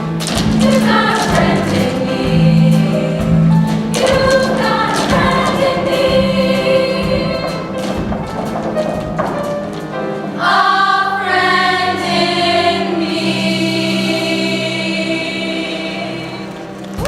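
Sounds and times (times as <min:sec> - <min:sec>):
choir singing a held chord: 0:00.3 - 0:08.1, 0:10.3 - 0:16.8.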